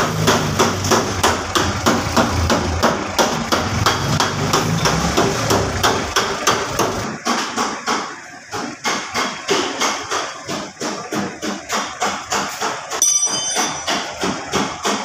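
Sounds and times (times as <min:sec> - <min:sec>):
rapid regular hammering: 0:00.0 - 0:15.0.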